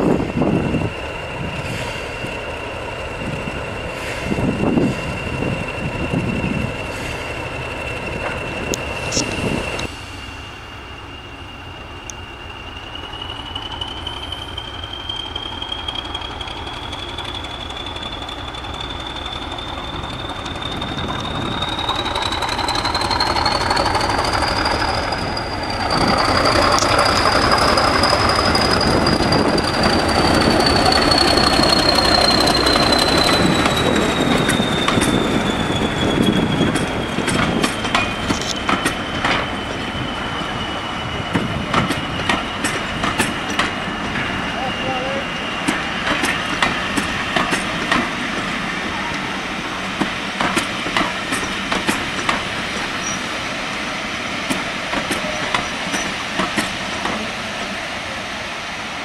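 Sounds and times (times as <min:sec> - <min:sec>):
train wheels passing: 0:00.0 - 0:59.0.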